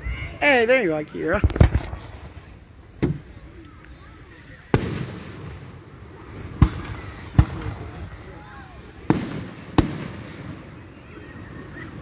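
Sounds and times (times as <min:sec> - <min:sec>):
firework hiss: 0:00.0 - 0:12.0
fireworks booming: 0:00.0 - 0:12.0.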